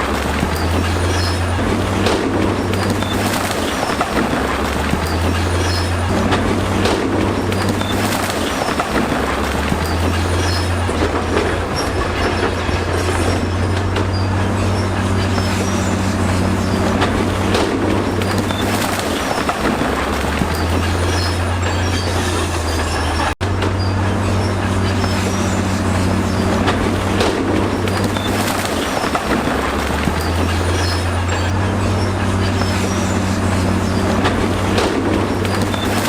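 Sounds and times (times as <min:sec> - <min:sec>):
bulldozer diesel engine: 0:00.0 - 0:36.0
steel tracks clanking and squealing: 0:00.0 - 0:36.0.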